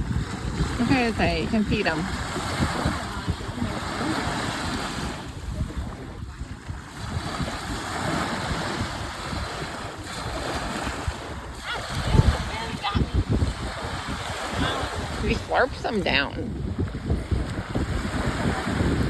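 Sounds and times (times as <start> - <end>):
water lapping: 0.0 - 19.0
wind buffeting microphone: 0.0 - 19.0.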